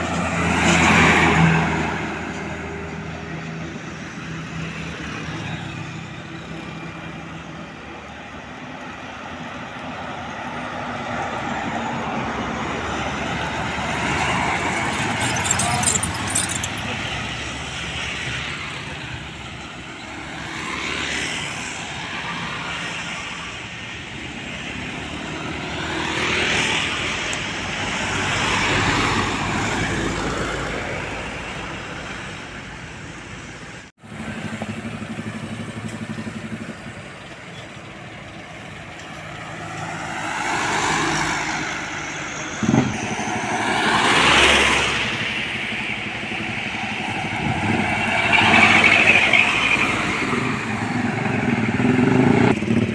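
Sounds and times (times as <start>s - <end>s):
trucks passing: 0.0s - 52.9s.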